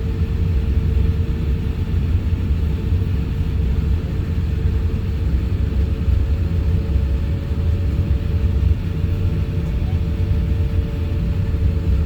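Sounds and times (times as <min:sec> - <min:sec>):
airplane cabin rumble: 0:00.0 - 0:12.0
constant hum: 0:00.0 - 0:12.0.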